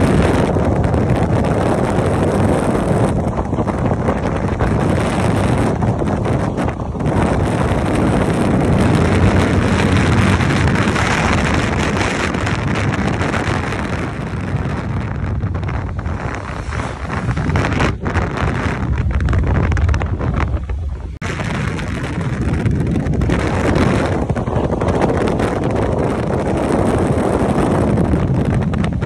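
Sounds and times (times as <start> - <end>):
motorcycle engine: 0.0 - 29.0
road noise: 0.0 - 29.0
wind buffeting microphone: 0.0 - 29.0.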